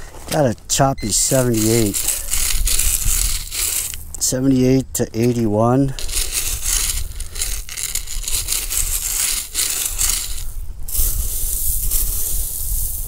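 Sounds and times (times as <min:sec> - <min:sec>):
gravel crunching and scraping: 0:00.0 - 0:13.0.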